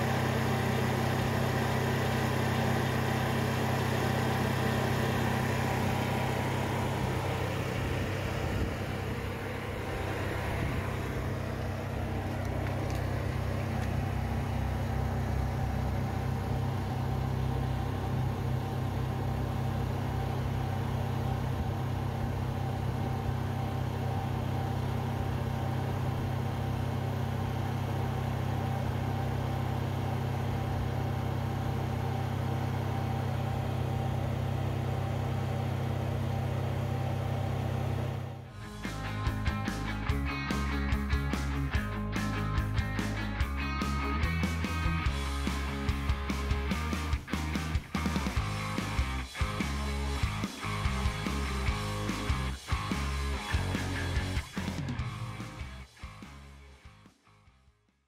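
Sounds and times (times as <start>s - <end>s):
diesel generator running: 0.0s - 57.2s.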